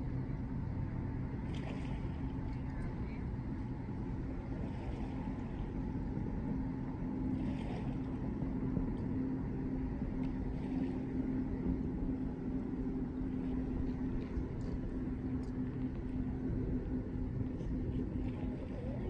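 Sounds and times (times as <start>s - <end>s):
distant engine running: 0.0s - 19.0s.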